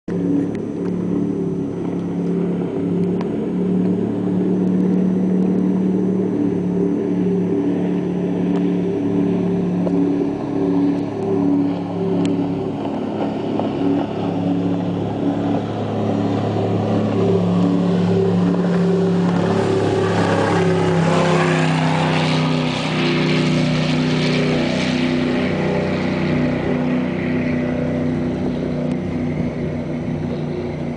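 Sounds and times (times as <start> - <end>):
powerboat engine drone: 0.1 - 30.9
rushing water and wind: 0.1 - 30.9.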